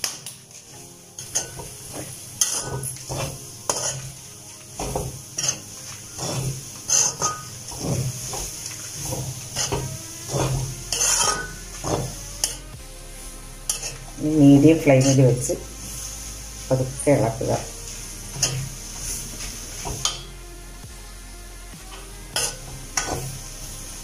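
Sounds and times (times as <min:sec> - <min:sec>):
metal spoon scraping a pan: 0:00.0 - 0:12.7, 0:13.7 - 0:20.4, 0:21.9 - 0:23.4
light sizzle: 0:00.0 - 0:24.0.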